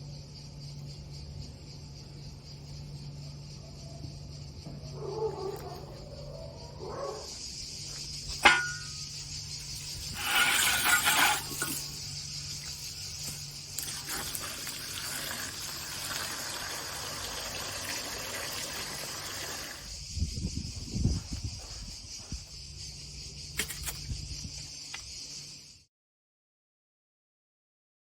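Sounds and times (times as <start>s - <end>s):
crickets chirring: 0.0s - 25.9s.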